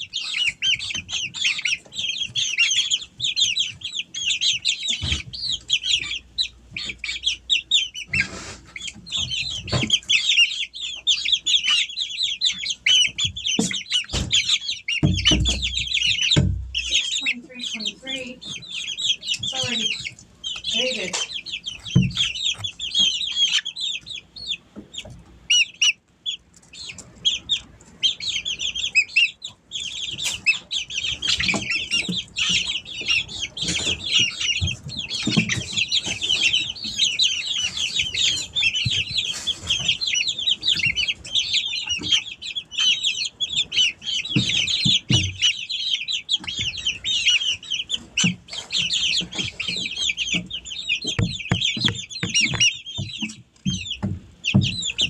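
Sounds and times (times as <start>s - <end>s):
birds knocking and bumping: 0.0s - 25.9s, 26.6s - 55.0s
chicks peeping and cheeping: 0.0s - 55.0s.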